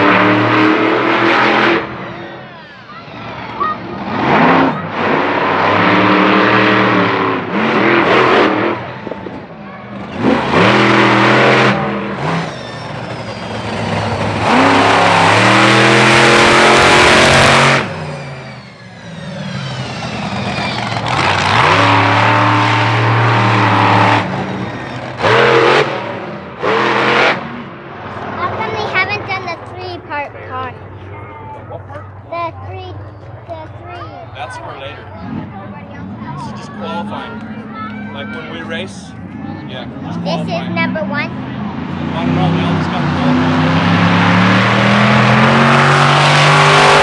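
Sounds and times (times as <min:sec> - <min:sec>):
truck engine revving hard: 0:00.0 - 0:31.3, 0:33.7 - 0:47.0.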